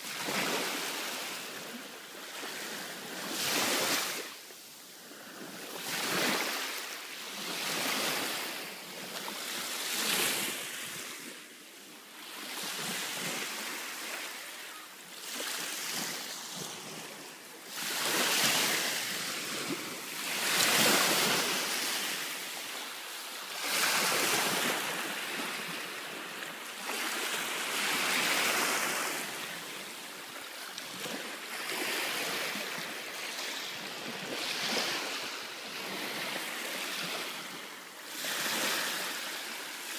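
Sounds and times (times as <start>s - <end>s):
small waves breaking on shore: 0.0s - 39.9s.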